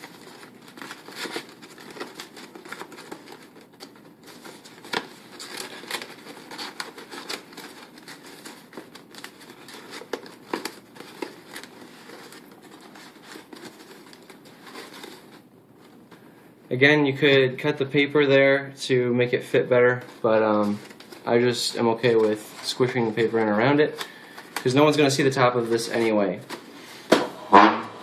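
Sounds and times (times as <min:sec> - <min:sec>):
paper crinkling and rustling: 0:00.0 - 0:16.2, 0:20.0 - 0:27.2.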